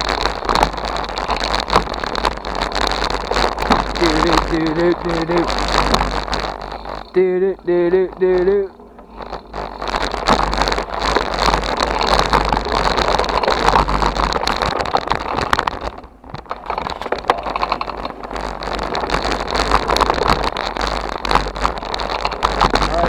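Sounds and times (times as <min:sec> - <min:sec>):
bicycle tyre and frame rattles: 0:00.0 - 0:23.0
wind on microphone: 0:00.0 - 0:23.0.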